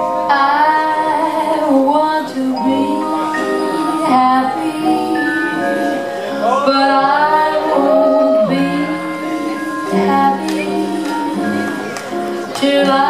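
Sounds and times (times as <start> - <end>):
music: 0.0 - 13.0
woman singing: 0.2 - 13.0.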